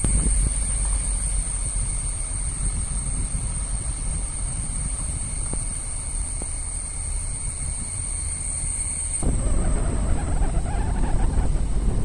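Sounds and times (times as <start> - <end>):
high-pitched whine: 0.0 - 12.0
vehicle engine rumble: 0.0 - 12.0
wind buffeting microphone: 0.0 - 12.0.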